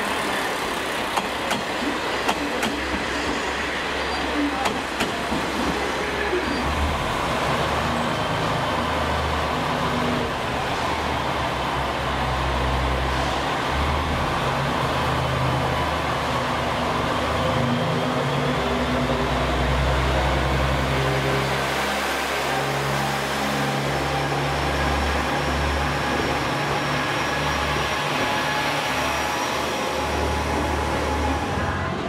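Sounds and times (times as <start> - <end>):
diesel railcar engine throbbing: 0.0 - 32.0.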